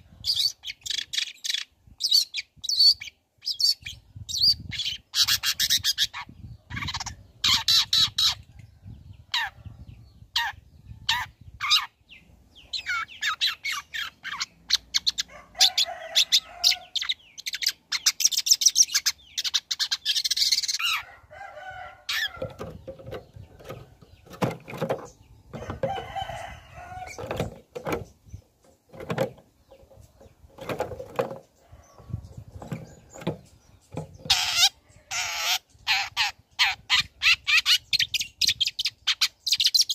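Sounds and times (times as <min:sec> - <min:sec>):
bird singing high chirps and trills: 0:00.0 - 0:39.9
lower clucking bird calls: 0:00.0 - 0:39.9.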